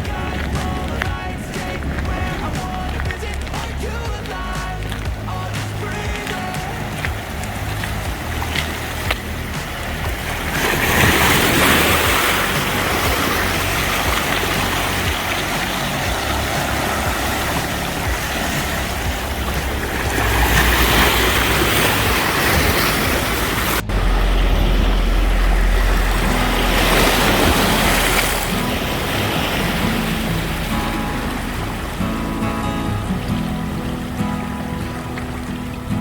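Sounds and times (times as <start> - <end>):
deep steady rumble: 0.0 - 36.0
sea waves breaking on shore: 0.0 - 36.0.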